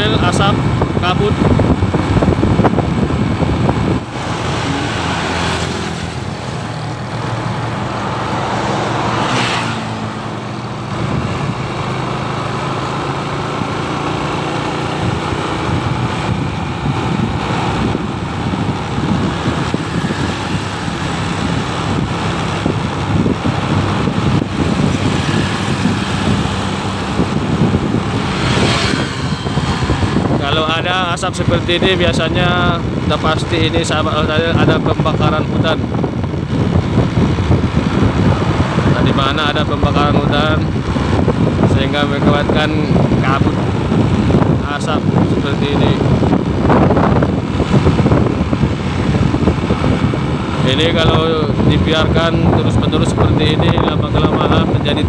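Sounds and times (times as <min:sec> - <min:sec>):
road noise: 0:00.0 - 0:55.0
traffic passing: 0:00.0 - 0:55.0
vehicle engine running: 0:00.0 - 0:55.0.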